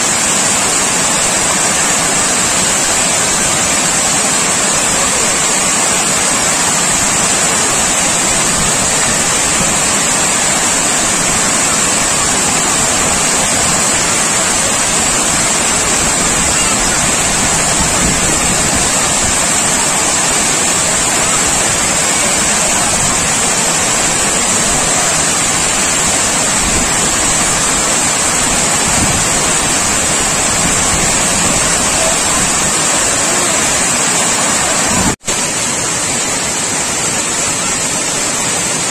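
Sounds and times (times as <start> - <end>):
water pouring over a dam: 0.0 - 38.9.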